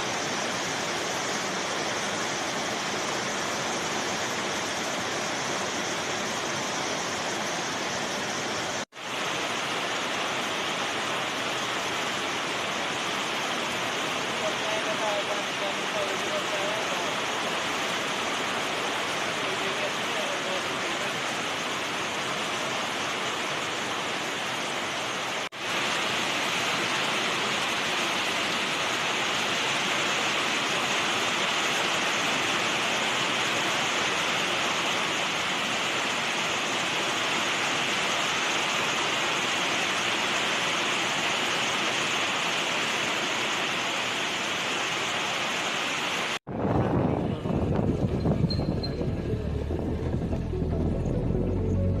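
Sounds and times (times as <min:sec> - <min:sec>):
waterfall rushing: 0:00.0 - 0:46.4, 0:48.2 - 0:52.0.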